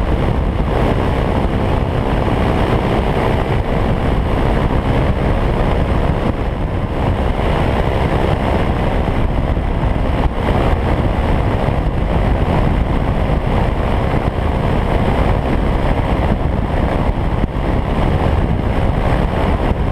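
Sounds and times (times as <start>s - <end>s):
loud rushing wind: 0.0s - 19.9s
ultralight engine and propeller droning: 0.0s - 19.9s.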